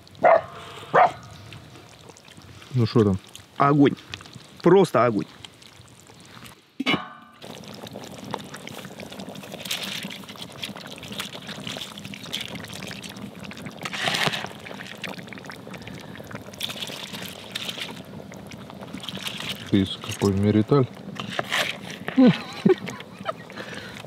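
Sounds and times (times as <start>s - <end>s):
water pouring into pot: 1.3s - 24.0s.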